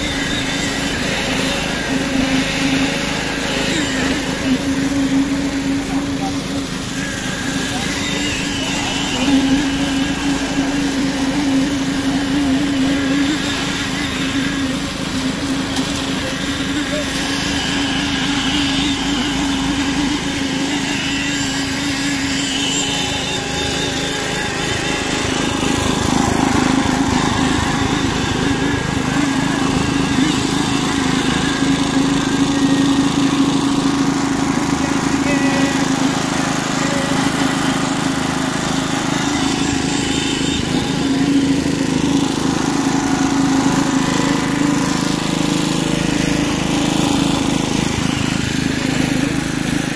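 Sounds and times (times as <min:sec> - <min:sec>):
small engine running steadily: 0:00.0 - 0:49.9.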